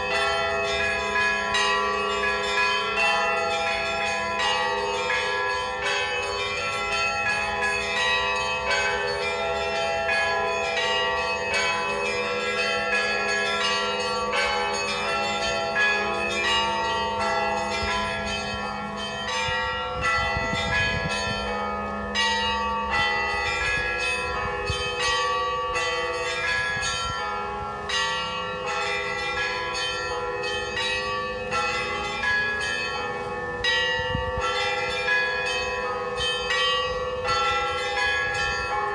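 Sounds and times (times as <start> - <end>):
large bells humming: 0.0 - 38.9
small church bells ringing: 0.0 - 38.9.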